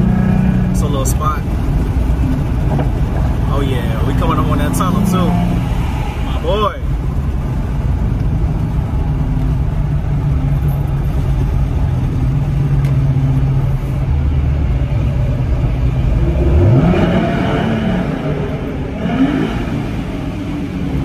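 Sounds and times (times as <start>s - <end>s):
car engine drone: 0.0s - 21.0s
road noise: 0.0s - 21.0s.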